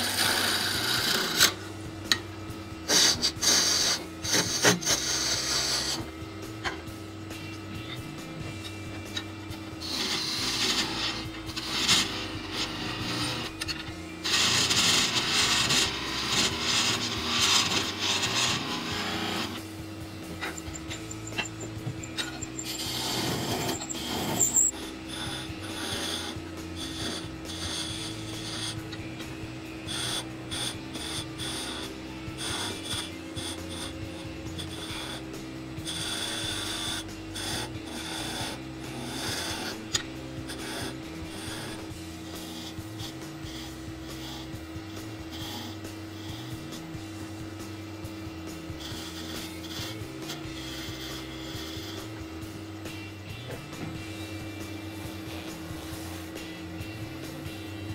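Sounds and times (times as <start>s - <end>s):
tool rasping against spinning wood: 0.0s - 1.6s, 2.8s - 6.1s, 9.8s - 57.9s
wood lathe motor hum: 0.0s - 6.4s, 7.4s - 57.9s.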